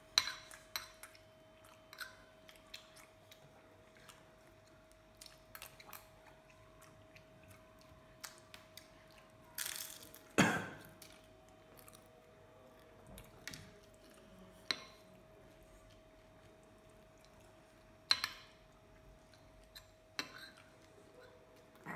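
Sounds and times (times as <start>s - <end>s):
soft chewing: 0.2s - 9.6s, 10.2s - 21.9s.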